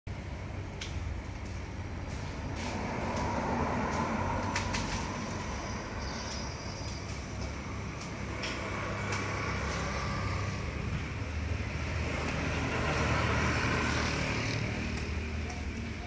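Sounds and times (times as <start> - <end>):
road traffic: 0.1 - 16.0
vehicle engine and tyre noise: 0.1 - 16.0.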